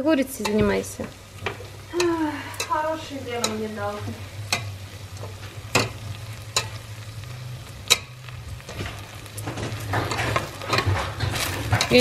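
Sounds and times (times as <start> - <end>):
low steady hum: 0.0 - 12.0
rice frying: 0.0 - 12.0
utensil scraping and clicking on pot: 0.3 - 12.0.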